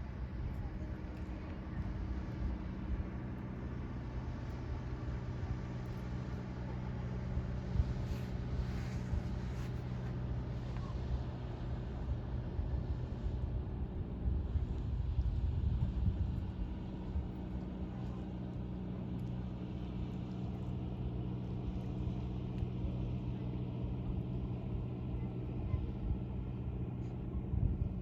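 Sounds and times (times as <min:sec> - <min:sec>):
boat engine drone: 0:00.0 - 0:28.0.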